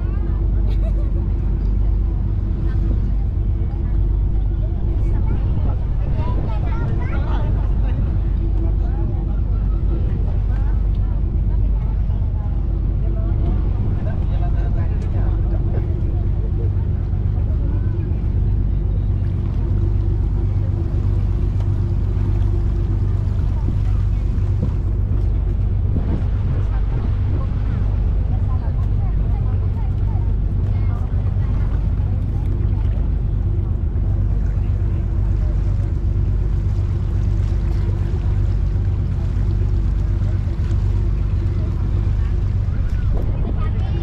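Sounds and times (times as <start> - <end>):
boat engine humming: 0.0 - 44.0.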